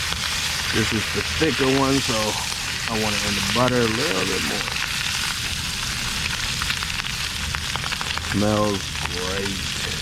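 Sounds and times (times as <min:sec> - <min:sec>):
crackles and pops: 0:00.0 - 0:10.0
fish sizzling in a pan: 0:00.0 - 0:10.0.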